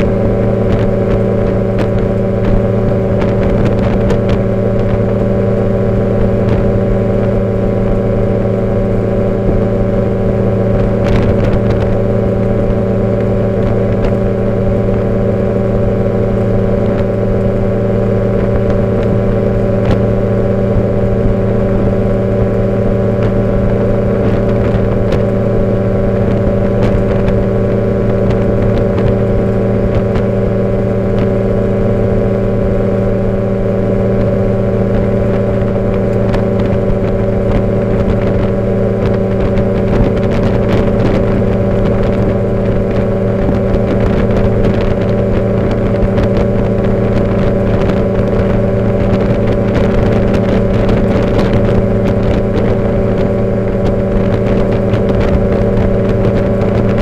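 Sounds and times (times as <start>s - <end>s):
light aircraft engine droning: 0.0s - 57.0s
wind rushing over microphone: 0.0s - 57.0s.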